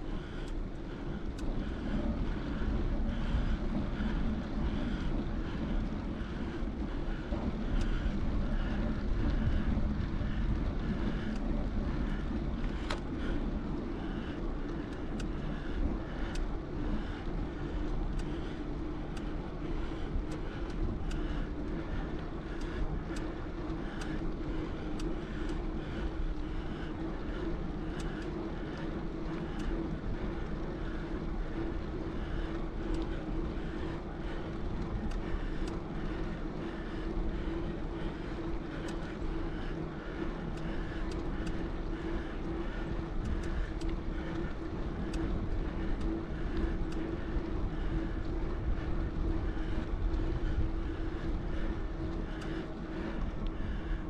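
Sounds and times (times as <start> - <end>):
bicycle rolling rumble: 0.0 - 54.0
light ticking: 0.1 - 54.0.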